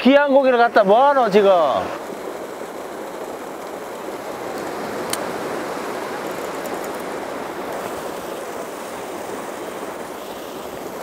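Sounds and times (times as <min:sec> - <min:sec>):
sea surf washing against rocks: 0:00.0 - 0:11.0.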